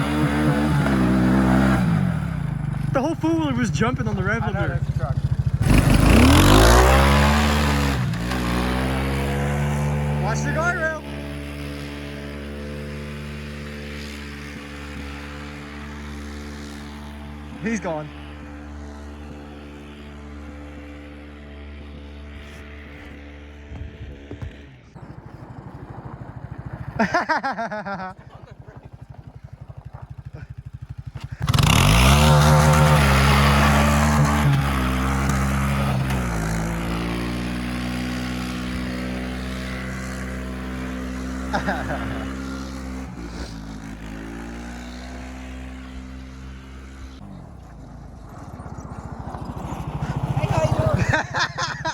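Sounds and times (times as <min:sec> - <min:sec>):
vehicle engine droning: 0:00.0 - 0:51.9.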